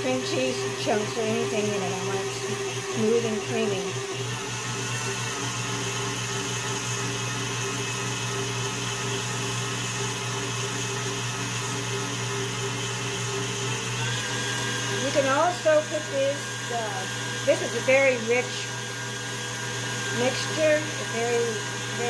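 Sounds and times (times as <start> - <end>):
stand mixer motor hum: 0.0 - 22.0.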